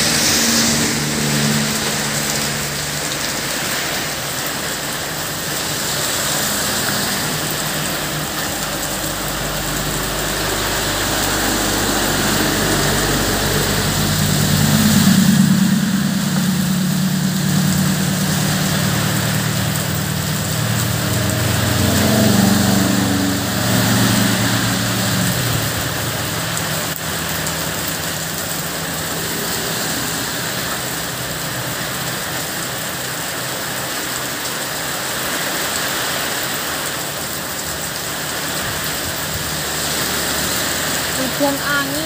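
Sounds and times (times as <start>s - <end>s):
motorcycle passing: 0.0s - 32.6s, 37.7s - 42.0s
heavy rain on road: 0.0s - 42.0s
tyres swishing through water: 0.0s - 42.0s.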